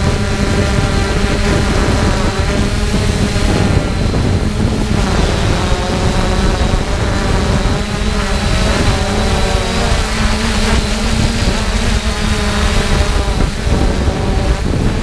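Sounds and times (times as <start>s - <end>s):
quadcopter propellers whining: 0.0s - 15.0s
wind rumble on microphone: 0.0s - 15.0s.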